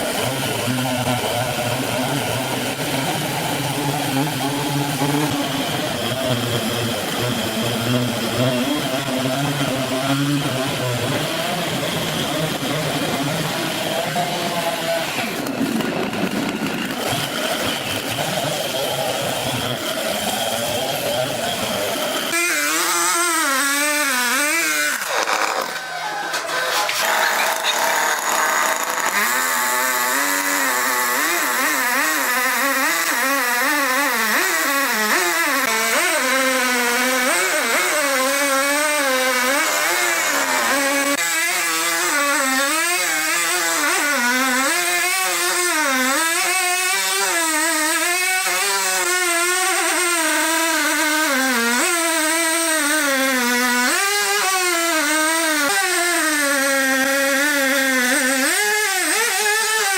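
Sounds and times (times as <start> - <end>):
sawmill machine motor running: 0.0 - 59.9.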